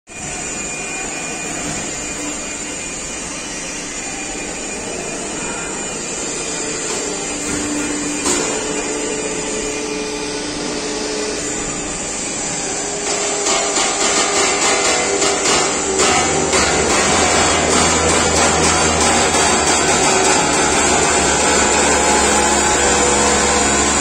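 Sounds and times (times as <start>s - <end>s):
hydraulic press hiss and hum: 0.1s - 24.0s.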